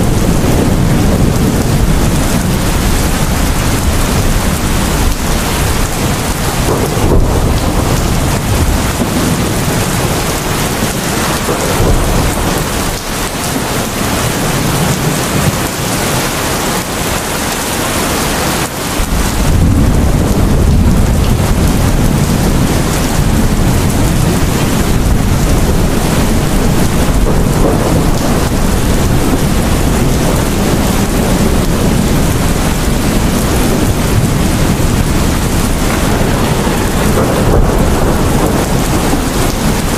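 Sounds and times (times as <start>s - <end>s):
deep thunder rumble: 0.0s - 17.3s, 18.4s - 39.9s
heavy rain pouring: 0.0s - 39.9s.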